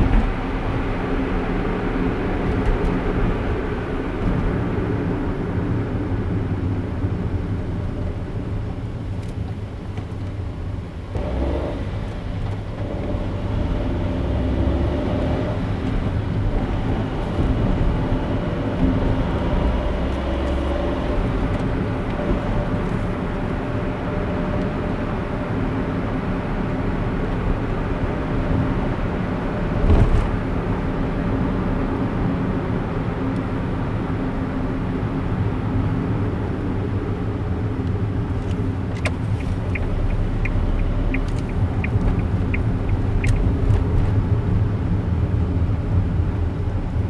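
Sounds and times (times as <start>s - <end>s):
car engine and tyre noise: 0.0s - 47.0s.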